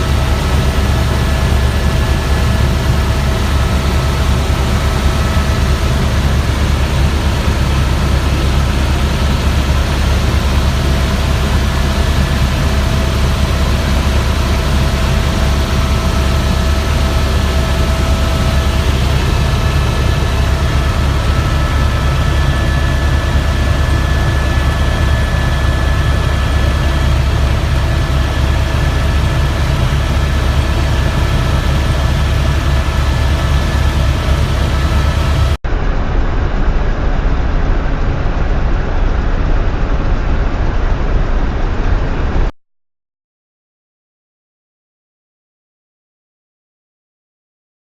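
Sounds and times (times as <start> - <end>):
helicopter rotor and engine drone: 0.0 - 42.5.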